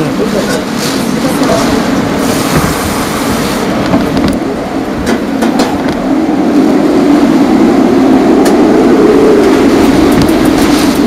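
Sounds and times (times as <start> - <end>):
wind howling: 0.0 - 11.0.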